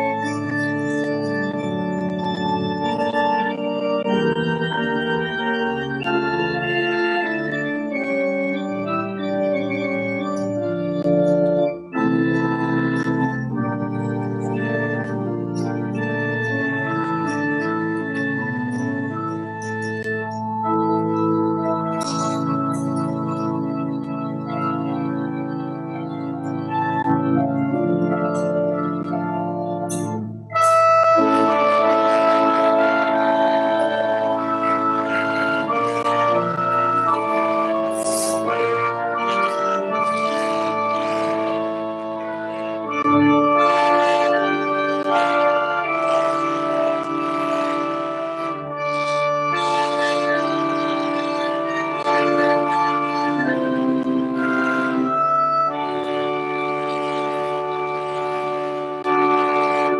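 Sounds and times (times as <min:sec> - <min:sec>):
organ chords: 0:00.0 - 0:59.9.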